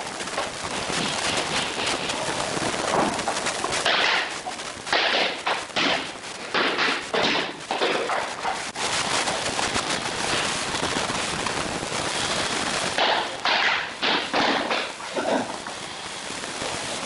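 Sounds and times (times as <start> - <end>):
wooden planks crackling and rattling: 0.0 - 17.0.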